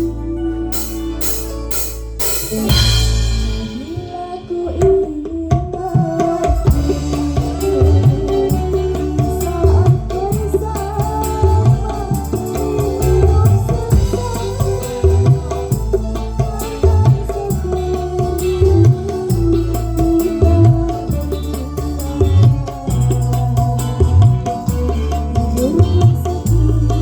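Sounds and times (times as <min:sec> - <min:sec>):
sustained melody line: 0:00.0 - 0:05.0, 0:06.7 - 0:27.0.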